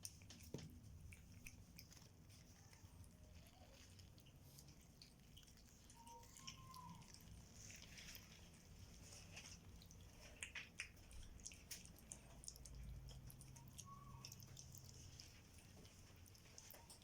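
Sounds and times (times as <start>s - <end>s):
low faint hum: 0.0s - 17.0s.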